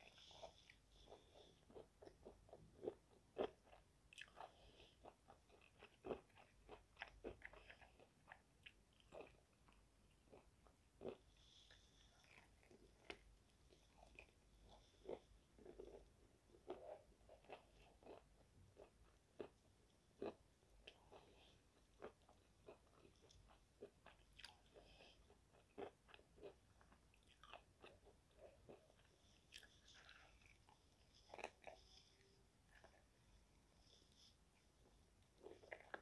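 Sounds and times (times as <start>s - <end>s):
chewing crispy fried chicken: 0.0s - 33.5s, 34.1s - 36.0s.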